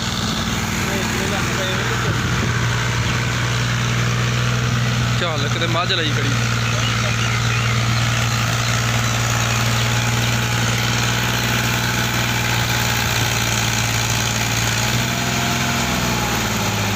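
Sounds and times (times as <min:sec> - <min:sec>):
tractor diesel engine droning: 0:00.0 - 0:16.9.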